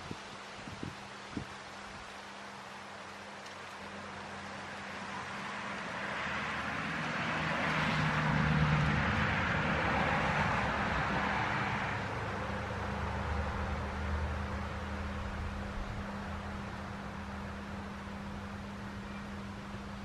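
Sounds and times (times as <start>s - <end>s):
leaves rustling in wind: 0.0s - 20.0s
vehicle passing by: 4.0s - 20.0s.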